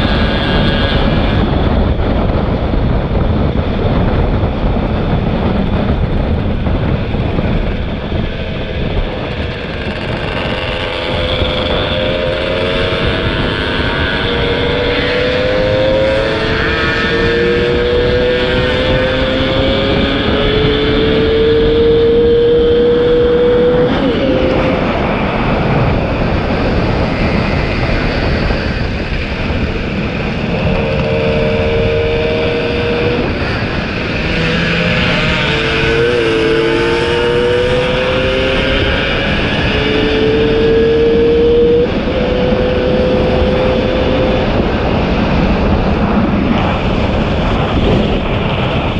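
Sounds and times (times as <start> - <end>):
two-stroke motorcycle engine: 0.0 - 40.7
rushing air noise: 0.0 - 48.9.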